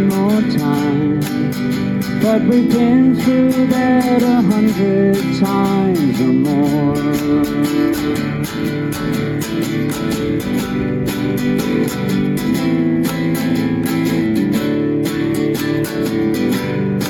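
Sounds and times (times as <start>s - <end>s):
guitar strummed: 0.0s - 17.0s.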